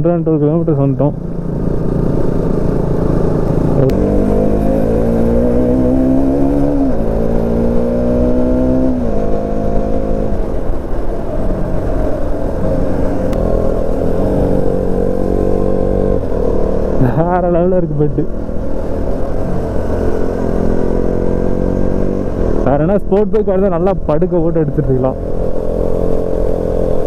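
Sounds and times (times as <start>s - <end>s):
motorcycle engine accelerating: 0.7s - 27.0s.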